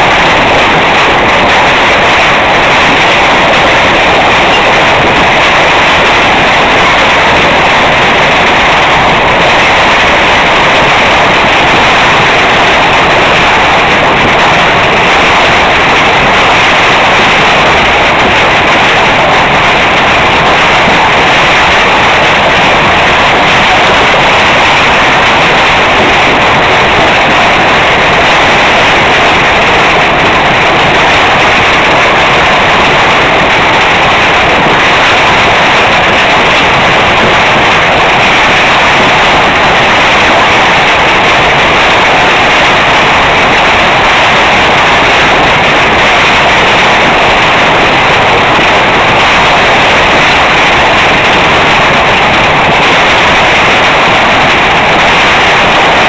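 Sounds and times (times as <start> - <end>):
hail pelting down: 0.0 - 56.0.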